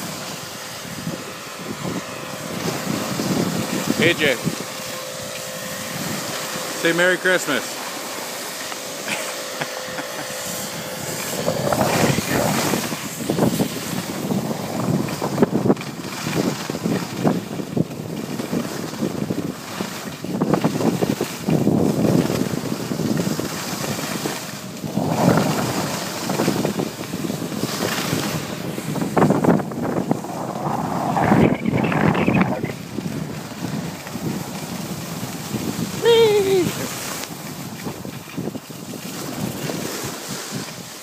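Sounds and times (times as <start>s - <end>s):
wind rushing over microphone: 0.0s - 41.0s
skis sliding on snow: 6.0s - 41.0s.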